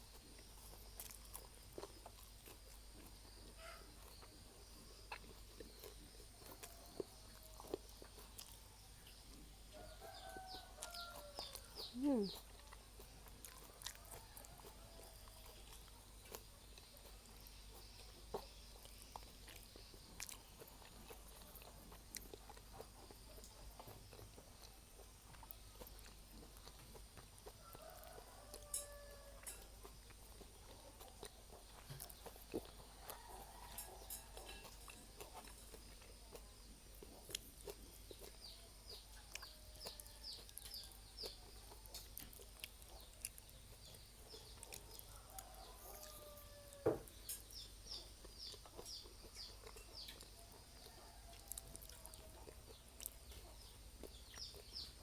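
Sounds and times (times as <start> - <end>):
person chewing: 0.0 - 55.0.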